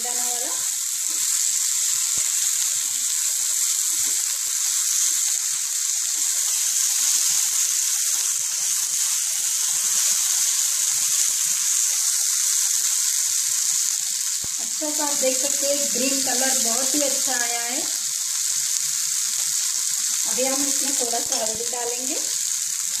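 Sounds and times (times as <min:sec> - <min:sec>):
okra sizzling in hot oil: 0:00.0 - 0:23.0.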